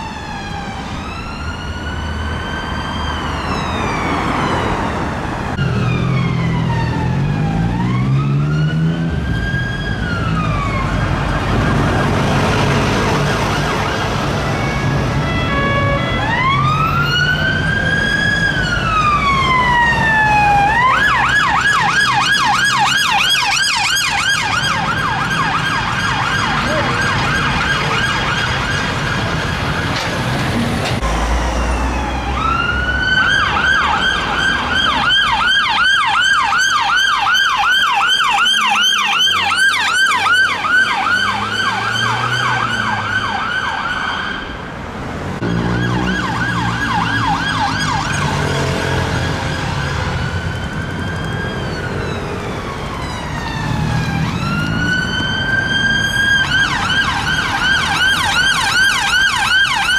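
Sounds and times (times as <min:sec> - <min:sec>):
ambulance siren: 0:00.0 - 0:59.9
police car siren: 0:00.0 - 0:59.9.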